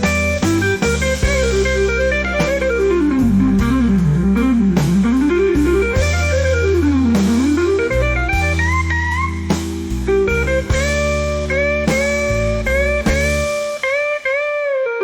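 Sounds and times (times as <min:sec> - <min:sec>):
steady bass line: 0:00.0 - 0:14.5
blues guitar runs: 0:00.0 - 0:15.0.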